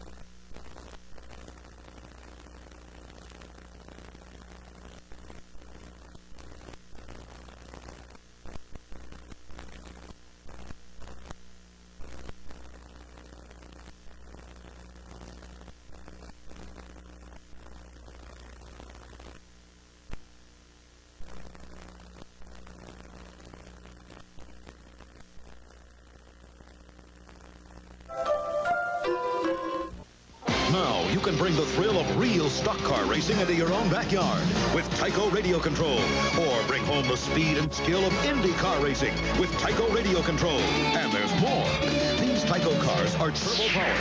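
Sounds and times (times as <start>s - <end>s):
low mains hum: 0.0s - 40.5s
scattered crackles: 0.0s - 41.6s.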